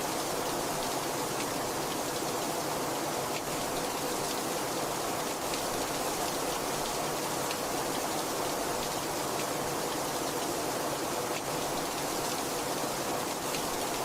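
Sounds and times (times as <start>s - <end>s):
heavy rain: 0.0s - 14.0s
raindrops ticking on a surface: 0.2s - 10.7s, 11.3s - 14.0s.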